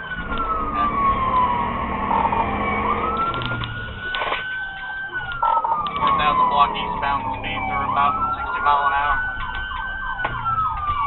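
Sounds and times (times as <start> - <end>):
police siren wailing: 0.0 - 11.0
road noise: 0.0 - 11.0.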